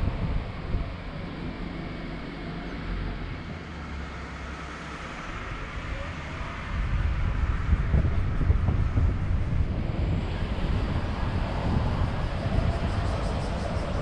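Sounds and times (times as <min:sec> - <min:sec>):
car road and engine noise: 0:00.0 - 0:14.0
low hum: 0:00.0 - 0:14.0.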